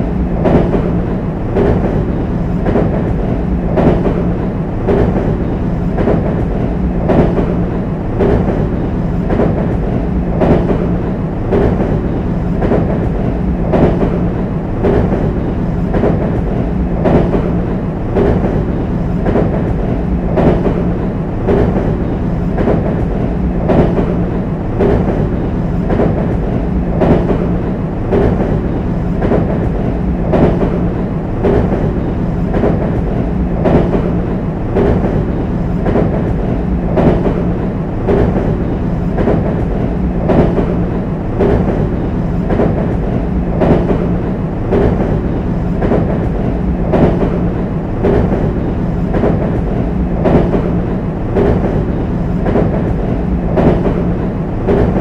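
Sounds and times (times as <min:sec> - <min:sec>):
train running rumble: 0:00.0 - 0:55.0
train wheels clacking over rail joints: 0:00.0 - 0:55.0.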